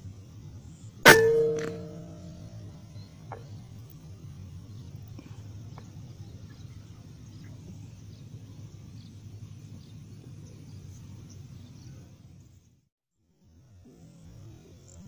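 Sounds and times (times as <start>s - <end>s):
steady low rumble: 0.0s - 12.3s
high chirps of birds or insects: 0.0s - 12.7s.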